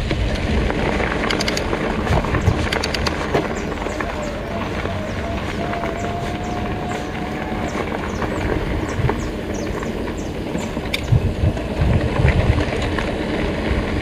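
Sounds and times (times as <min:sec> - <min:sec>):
bike rolling and rattling on dirt: 0:00.0 - 0:14.0.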